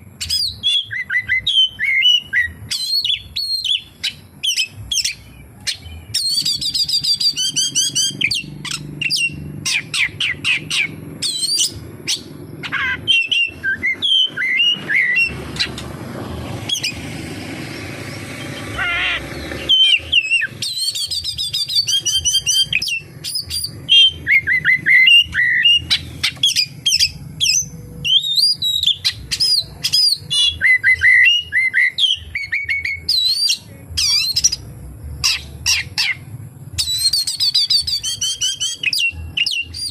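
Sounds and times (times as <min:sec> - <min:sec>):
low steady hum: 0:00.0 - 0:39.8
songbird singing varied song: 0:00.0 - 0:39.9.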